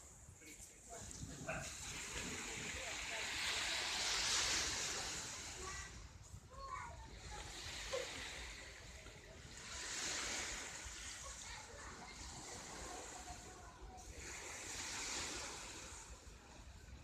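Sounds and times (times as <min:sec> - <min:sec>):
waves washing onto shore: 0:00.0 - 0:17.0.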